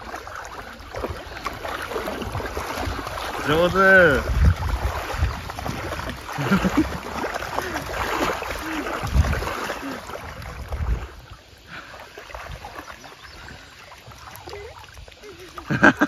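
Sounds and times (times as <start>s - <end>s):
dog splashing through water: 0.0s - 16.0s
water washing: 0.0s - 16.0s.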